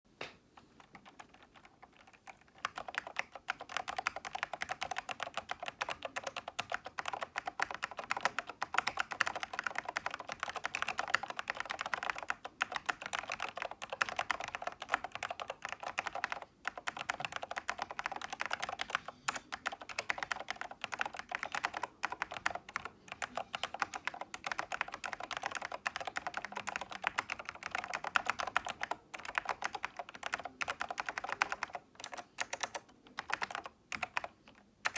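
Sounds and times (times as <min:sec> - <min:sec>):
keyboard typing: 0:00.6 - 0:34.9.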